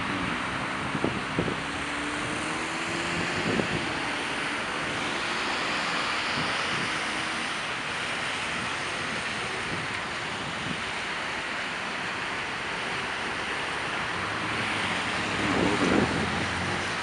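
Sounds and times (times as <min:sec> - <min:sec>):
city street traffic: 0:00.0 - 0:17.0
passing vehicle: 0:00.0 - 0:17.0.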